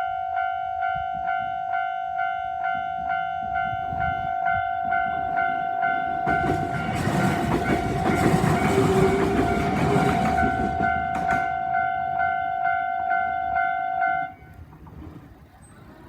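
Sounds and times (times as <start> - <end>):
level-crossing warning bell: 0.0 - 14.4
train running over crossing: 0.0 - 16.0.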